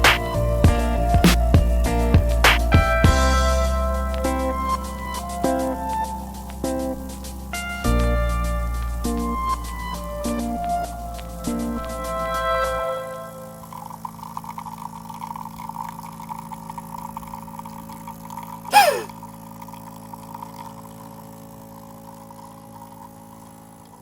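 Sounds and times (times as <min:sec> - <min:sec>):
coffee machine humming: 0:00.0 - 0:24.0
pump buzzing and gurgling: 0:00.0 - 0:24.0.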